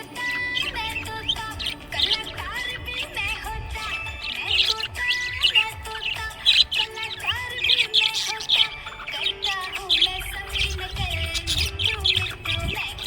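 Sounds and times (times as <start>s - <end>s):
budgerigars chirping and warbling: 0.0s - 13.0s
music playing: 0.0s - 13.0s.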